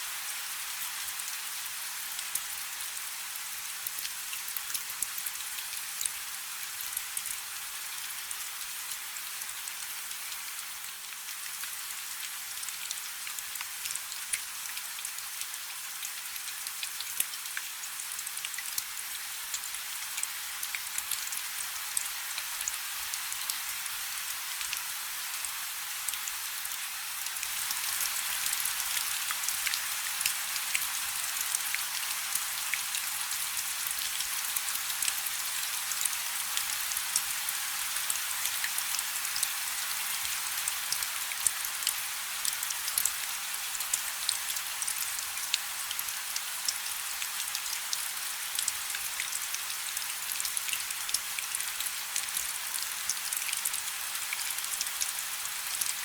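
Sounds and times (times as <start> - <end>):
rain falling on a river: 0.0 - 56.0.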